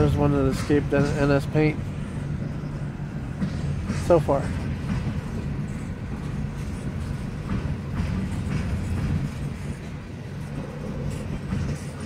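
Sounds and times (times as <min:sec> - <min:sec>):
freight train rolling rumble: 0:00.0 - 0:12.0.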